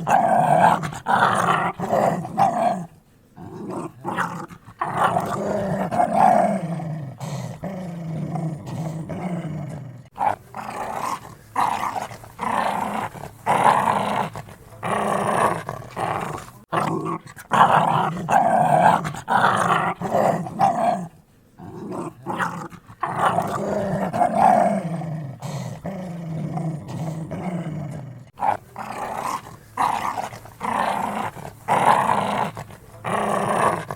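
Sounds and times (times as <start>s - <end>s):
dogs growling: 0.0s - 33.9s.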